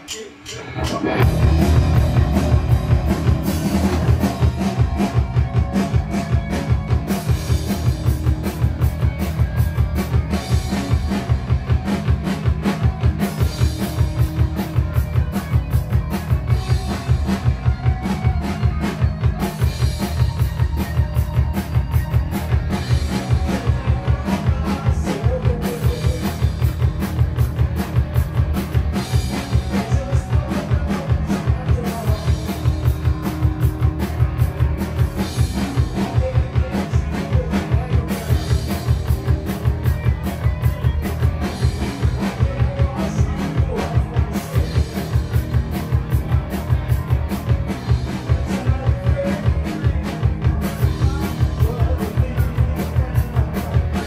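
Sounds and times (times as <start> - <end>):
drum kit beat: 0.0 - 54.0
live rock band playing: 0.0 - 54.0
electric bass line: 0.6 - 54.0.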